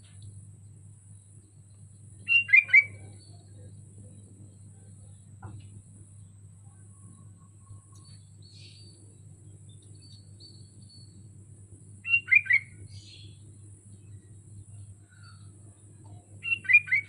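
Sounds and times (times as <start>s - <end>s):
bird singing: 0.0s - 17.0s
steady low hum: 0.0s - 17.0s.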